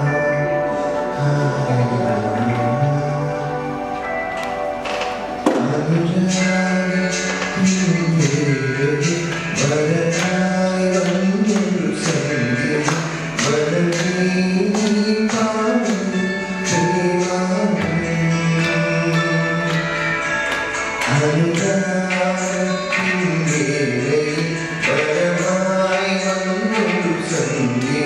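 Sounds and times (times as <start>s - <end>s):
man singing into a microphone: 0.0s - 4.2s, 5.5s - 28.0s
instrumental accompaniment: 0.0s - 28.0s
percussion beat: 4.4s - 28.0s.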